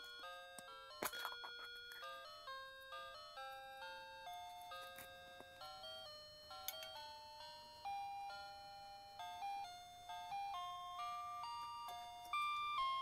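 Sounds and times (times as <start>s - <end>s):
simple melody of held notes: 0.0s - 13.0s.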